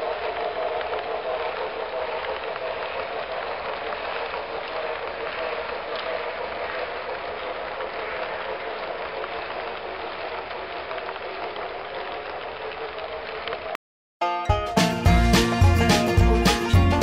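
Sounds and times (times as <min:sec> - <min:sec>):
model train wheels rattling: 0:00.0 - 0:13.7.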